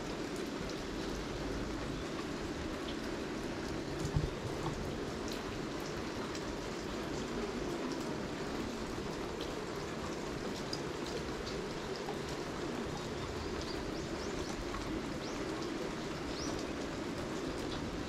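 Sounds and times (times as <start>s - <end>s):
rain falling and dripping: 0.0s - 18.0s.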